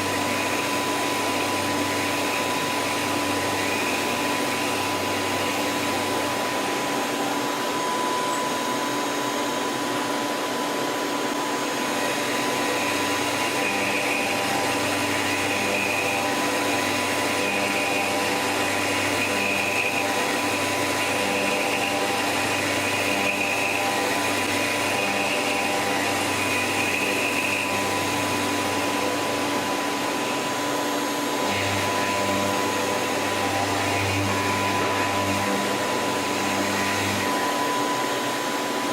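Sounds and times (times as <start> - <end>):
high machine whine: 0.0 - 38.9
lathe machine running: 0.0 - 38.9.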